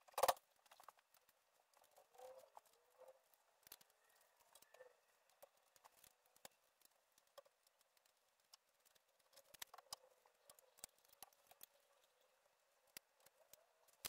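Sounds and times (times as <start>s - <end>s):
faint clicks and taps of tools: 0.0s - 14.0s.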